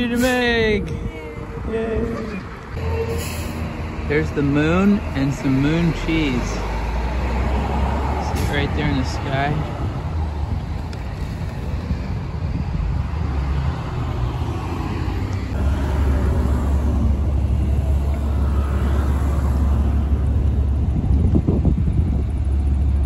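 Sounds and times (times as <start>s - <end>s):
vehicles passing on busy street: 0.0s - 23.0s.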